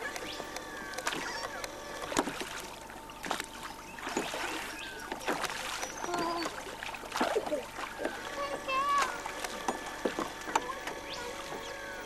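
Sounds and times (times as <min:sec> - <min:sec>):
water splashing against hull: 0:00.0 - 0:12.0.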